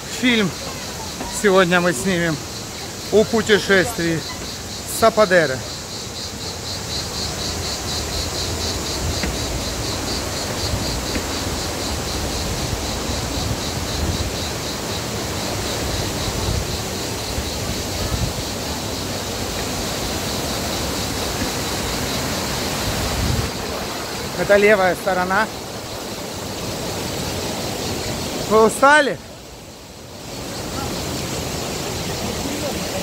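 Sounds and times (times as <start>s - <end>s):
insect chirping: 0.0s - 33.0s
stream rushing: 0.0s - 33.0s.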